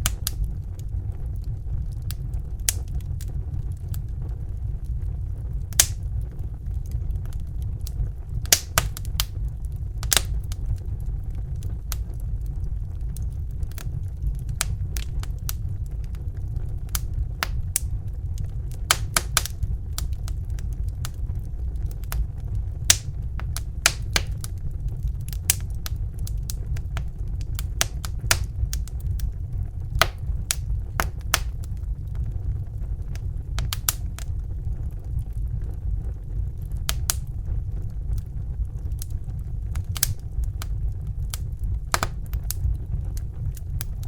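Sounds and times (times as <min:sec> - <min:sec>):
fire crackling: 0:00.0 - 0:44.0.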